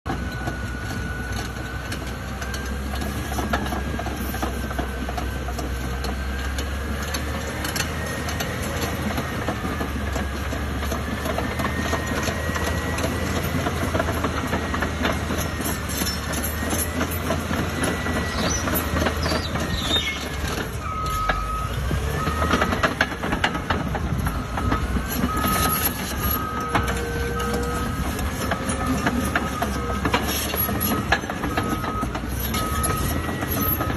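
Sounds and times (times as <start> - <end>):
diesel engine running: 0.1 - 33.9
steel tracks clanking: 0.1 - 33.9.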